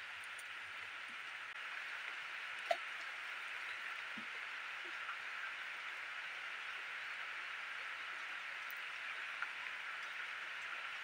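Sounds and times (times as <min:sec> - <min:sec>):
soft rain-like hiss: 0:00.0 - 0:11.0.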